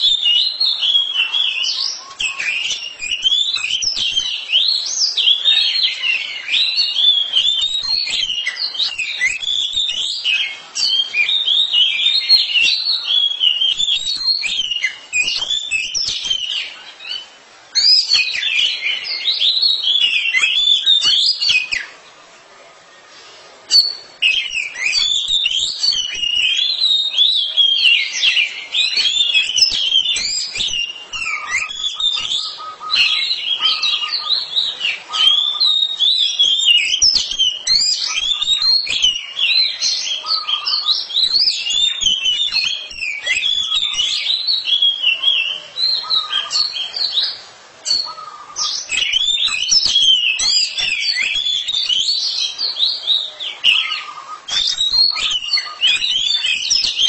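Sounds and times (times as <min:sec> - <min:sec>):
bird singing warble: 0:00.0 - 0:22.2, 0:23.7 - 0:57.0.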